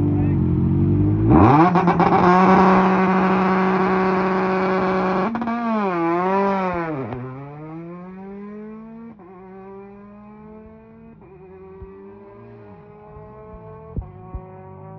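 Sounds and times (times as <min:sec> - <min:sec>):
rally car engine accelerating: 0:00.0 - 0:14.9.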